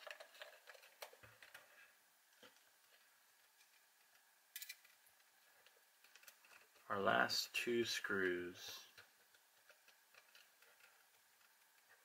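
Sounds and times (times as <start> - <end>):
faint clicks and taps: 0.0 - 6.9, 8.7 - 12.0.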